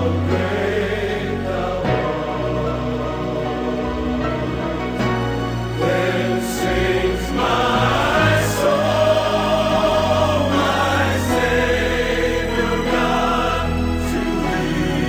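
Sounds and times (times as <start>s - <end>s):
choir-like voices: 0.0s - 15.0s.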